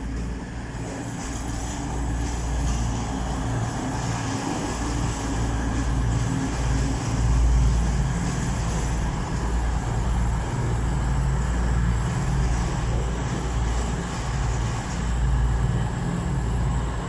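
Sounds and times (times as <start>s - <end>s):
diesel train engines droning: 0.0s - 17.0s.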